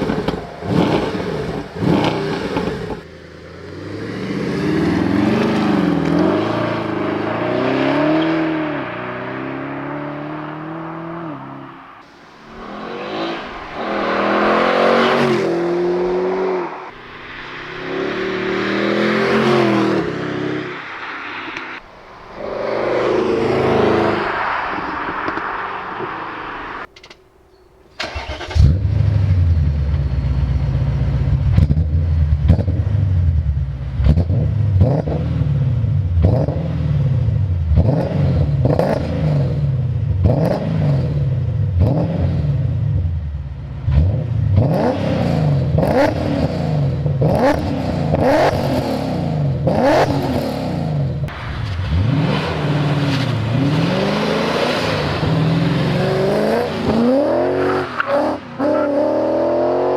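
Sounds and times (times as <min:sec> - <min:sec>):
car engine revving: 0:00.0 - 0:26.9, 0:28.0 - 0:59.9.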